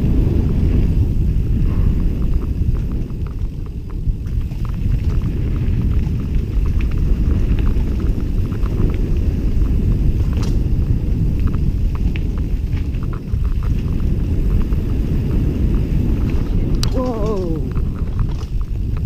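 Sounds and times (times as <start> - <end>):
tyres clicking on gravel: 0.0 - 19.0
wind buffeting microphone: 0.0 - 19.0.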